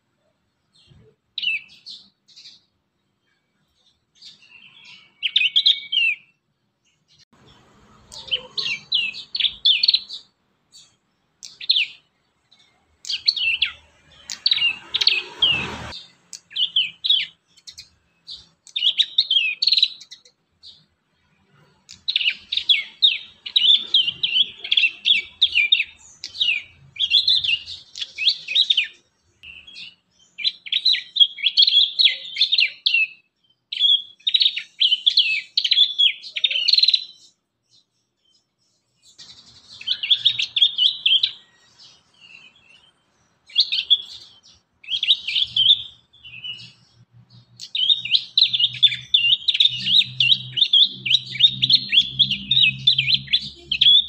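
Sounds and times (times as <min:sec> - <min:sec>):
young birds chirping: 0:00.6 - 0:54.0.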